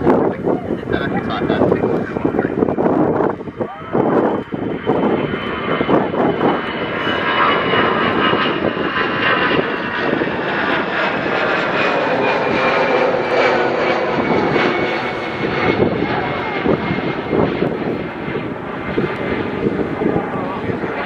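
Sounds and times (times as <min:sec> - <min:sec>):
aircraft engines running: 0:00.0 - 0:21.0.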